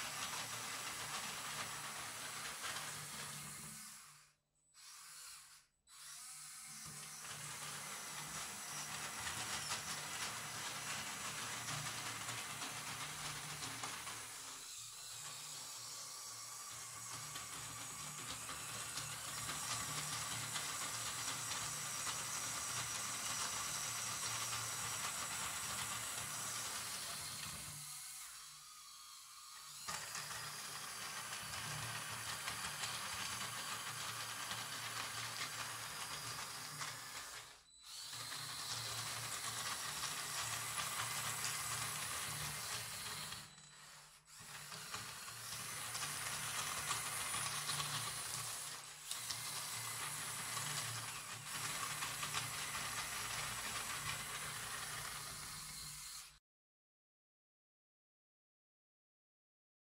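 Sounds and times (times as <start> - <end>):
toy electric motors running: 0.0 - 56.4.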